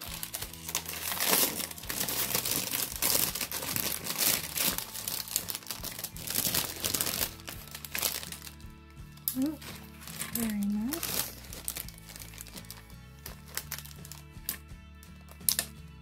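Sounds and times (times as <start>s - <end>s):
plastic wrapping crinkling: 0.0s - 15.8s.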